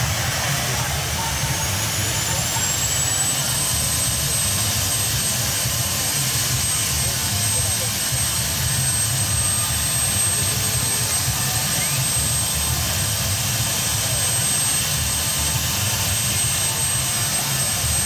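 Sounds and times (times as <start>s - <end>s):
helicopter turbine whine: 0.0s - 18.0s.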